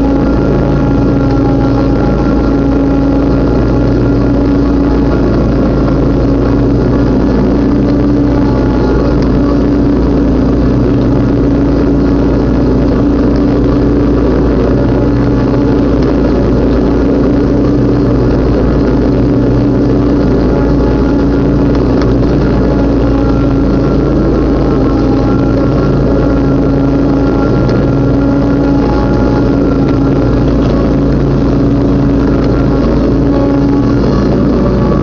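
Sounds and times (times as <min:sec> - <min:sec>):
lawn mower engine cutting grass: 0:00.0 - 0:35.0.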